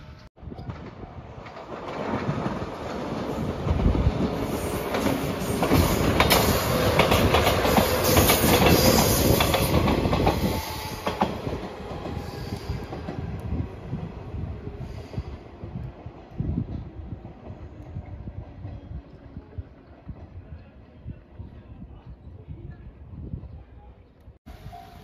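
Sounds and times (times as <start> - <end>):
electric train passing: 0.0 - 20.1.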